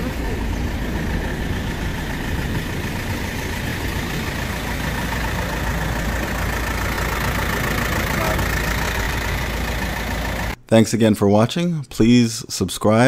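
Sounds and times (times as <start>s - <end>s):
diesel truck engine idling: 0.0s - 10.6s.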